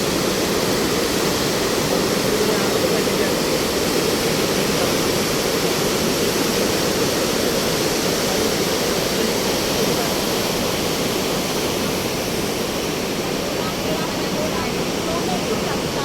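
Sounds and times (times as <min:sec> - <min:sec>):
rush of falling water: 0:00.0 - 0:16.0.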